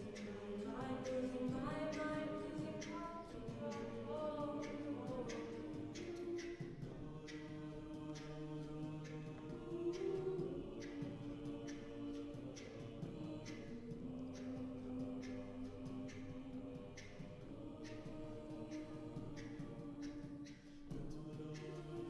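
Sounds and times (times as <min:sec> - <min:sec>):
a cappella group singing: 0:00.0 - 0:22.0
vocal percussion beat: 0:00.0 - 0:22.0.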